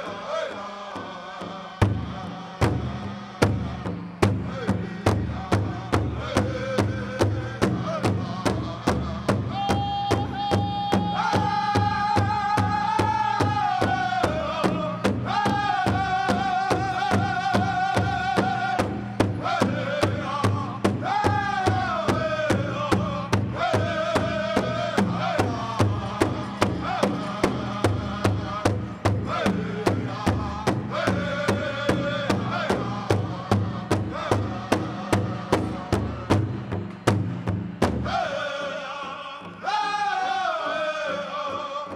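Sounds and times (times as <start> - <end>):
big drum steady beat: 1.4 - 38.2.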